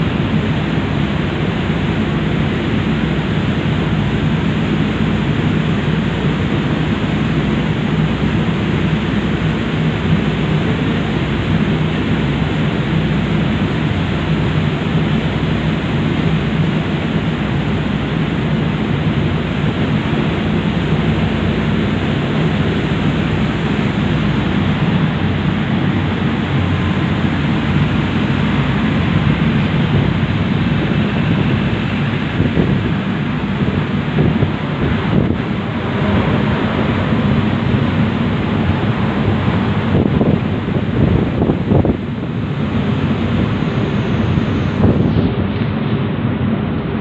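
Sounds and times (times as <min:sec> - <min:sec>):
ferry engines droning: 0:00.0 - 0:47.0
wind buffeting microphone: 0:00.0 - 0:47.0.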